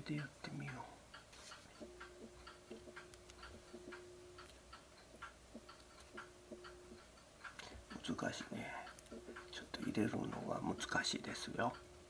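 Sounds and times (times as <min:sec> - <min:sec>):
faint steady hum: 0:00.0 - 0:12.0
light ticking clicks: 0:00.0 - 0:12.0.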